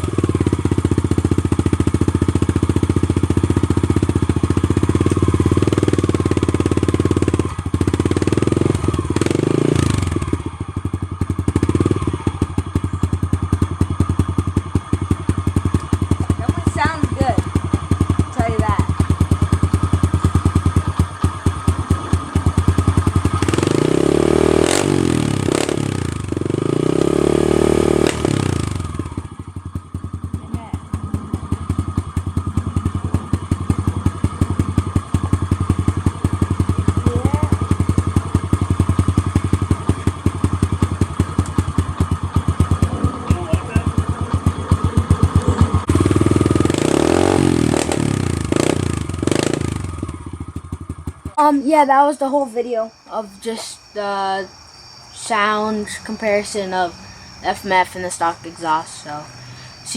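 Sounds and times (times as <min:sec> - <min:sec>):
dirt bike engine revving: 0:00.0 - 0:54.5, 0:55.1 - 0:59.9
dirt bike engine idling: 0:00.0 - 0:59.9.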